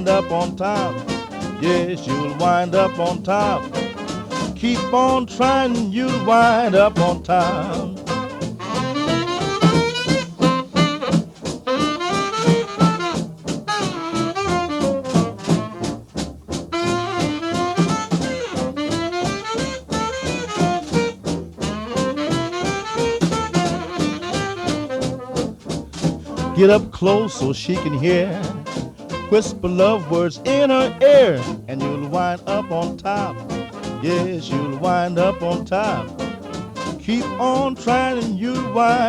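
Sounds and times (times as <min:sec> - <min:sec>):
horns playing melody: 0:00.0 - 0:39.0
jump blues band playing: 0:00.0 - 0:39.0.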